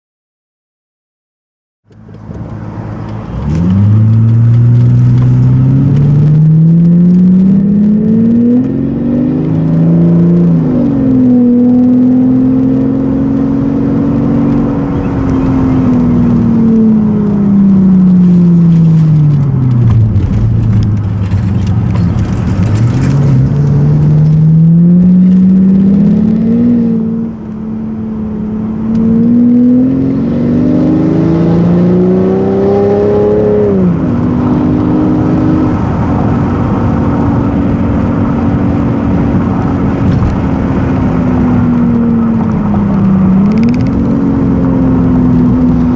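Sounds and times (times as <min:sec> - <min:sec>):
loud car exhaust revving: 0:02.0 - 0:27.6, 0:28.2 - 0:45.9.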